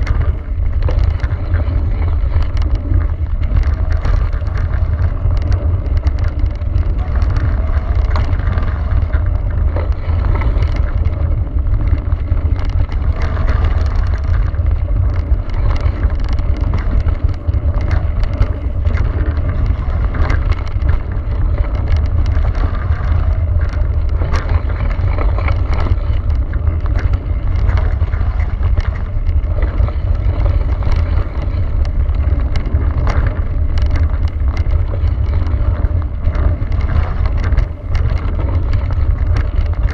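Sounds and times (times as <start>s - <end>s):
bike rattling and knocking: 0.0s - 39.9s
tyres crunching over gravel: 0.0s - 39.9s
wind rumble on microphone: 0.0s - 39.9s.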